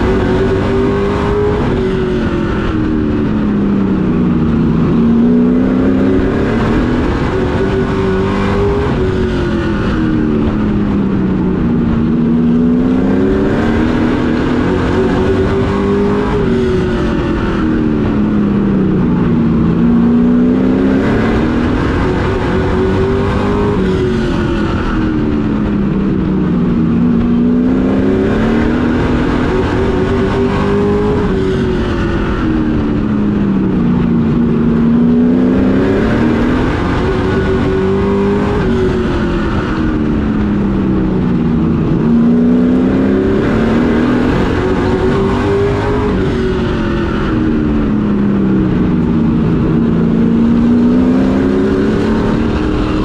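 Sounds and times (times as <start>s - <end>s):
race truck engine revving: 0.0s - 53.0s.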